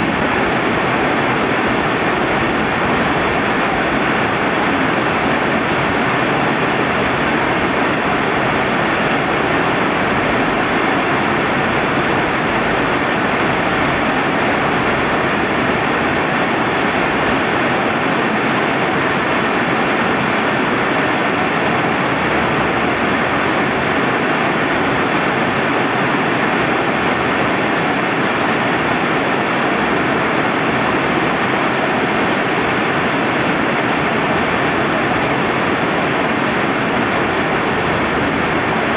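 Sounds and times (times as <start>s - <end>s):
running river water: 0.0s - 38.9s
steady rain falling: 0.0s - 38.9s.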